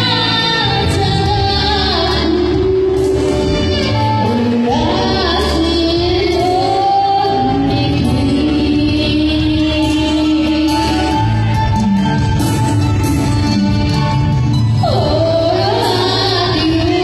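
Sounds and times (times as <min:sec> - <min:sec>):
girl singing into microphone: 0:00.0 - 0:11.8, 0:14.8 - 0:17.0
live instrumental accompaniment: 0:00.0 - 0:17.0.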